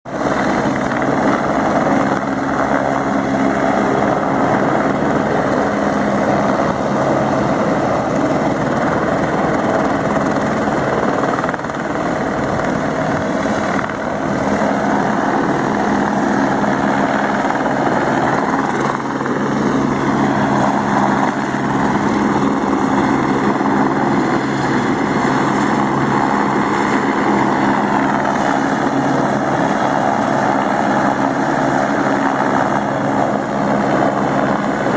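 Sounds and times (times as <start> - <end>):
helicopter hovering: 0.1 - 34.9.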